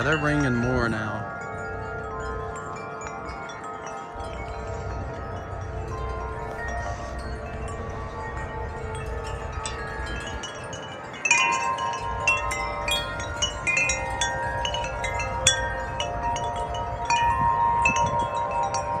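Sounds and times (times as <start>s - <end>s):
gusty wind: 0.0s - 19.0s
wind chimes ringing: 0.0s - 19.0s.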